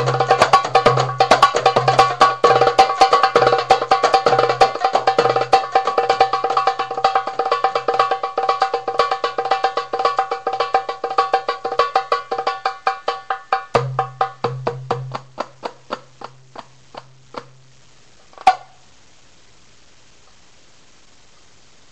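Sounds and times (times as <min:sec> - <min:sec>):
darbuka drumming: 0:00.0 - 0:17.6.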